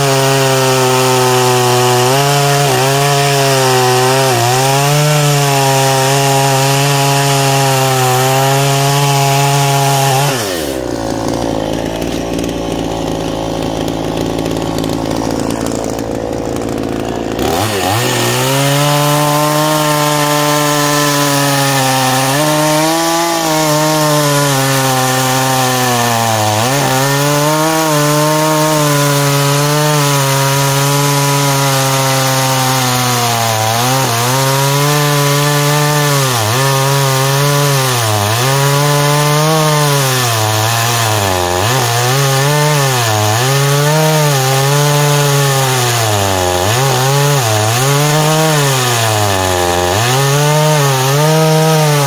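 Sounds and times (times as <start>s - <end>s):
chainsaw cutting log: 0.0s - 52.0s.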